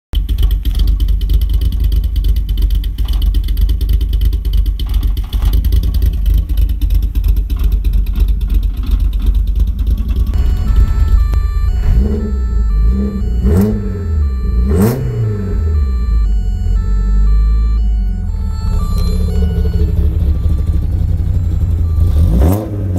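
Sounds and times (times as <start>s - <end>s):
car exhaust idling lumpily: 0.2s - 22.9s.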